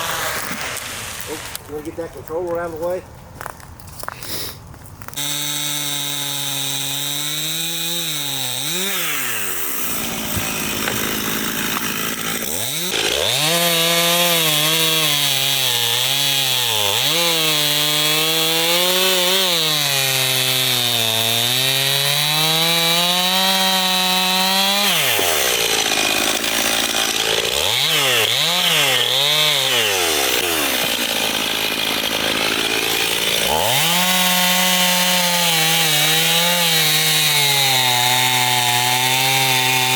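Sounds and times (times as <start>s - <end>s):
chainsaw cutting wood: 0.0s - 3.0s, 4.1s - 39.9s.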